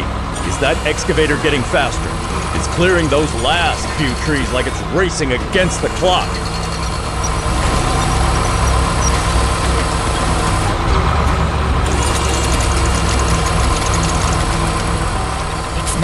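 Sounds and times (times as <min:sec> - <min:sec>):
excavator diesel engine rumbling: 0:00.0 - 0:16.0.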